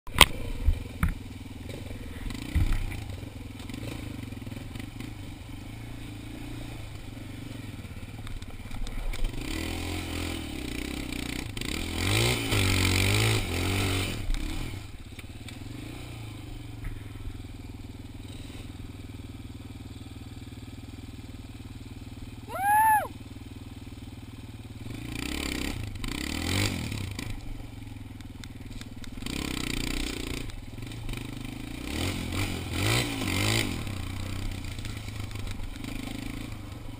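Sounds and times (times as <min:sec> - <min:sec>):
atv engine revving: 0:00.1 - 0:36.9.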